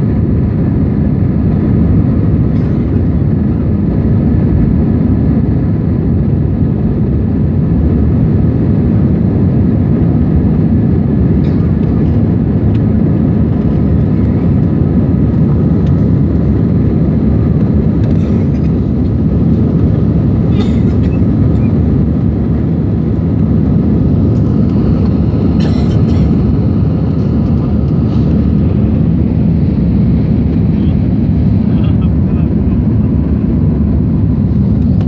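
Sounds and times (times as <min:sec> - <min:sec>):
airliner engine rumble: 0:00.0 - 0:35.0.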